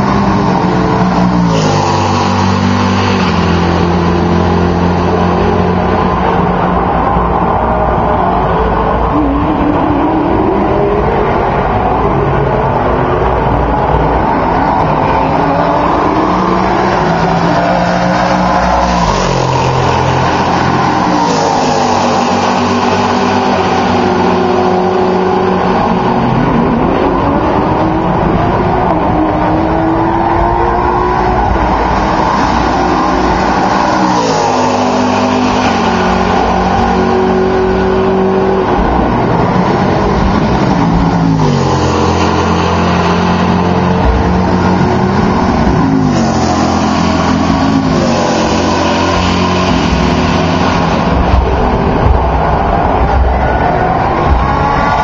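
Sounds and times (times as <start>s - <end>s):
race cars passing at full throttle: 0.0s - 55.0s.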